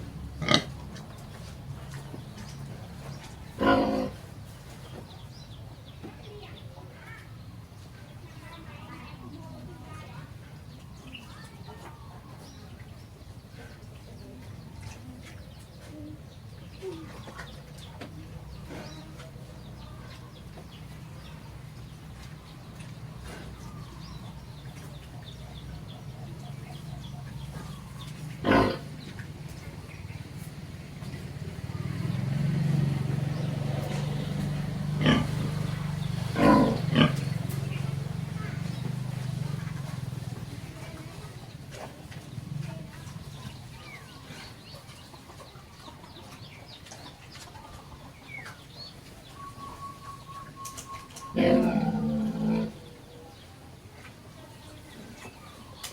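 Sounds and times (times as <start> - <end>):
birds chirping: 0.0 - 55.9
chickens clucking: 0.0 - 55.9.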